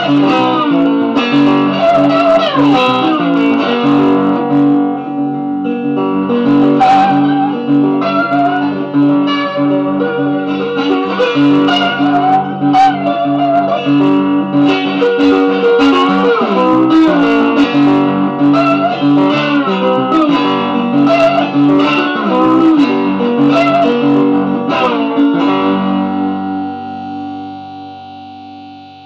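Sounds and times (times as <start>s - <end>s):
electric guitar solo: 0.0s - 29.0s.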